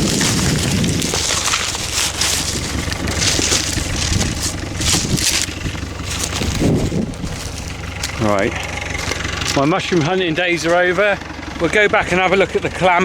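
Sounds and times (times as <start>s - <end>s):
dry stubble and leaves crunching: 0.0s - 13.0s.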